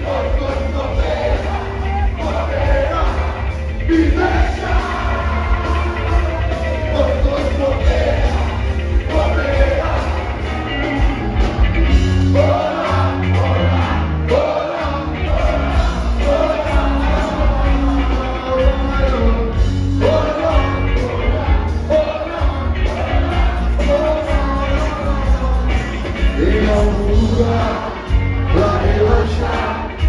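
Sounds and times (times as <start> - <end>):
man singing: 0.0 - 10.6, 12.3 - 30.0
live rock band playing: 0.0 - 30.0
strong bass line: 0.0 - 30.0.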